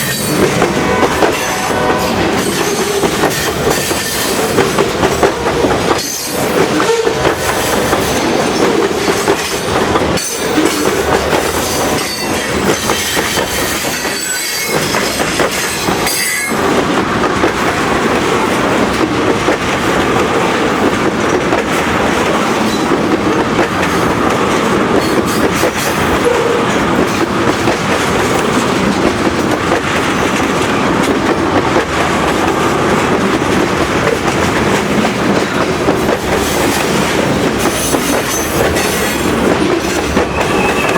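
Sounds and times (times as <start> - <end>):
wheels clacking over rail joints: 0.0 - 40.9.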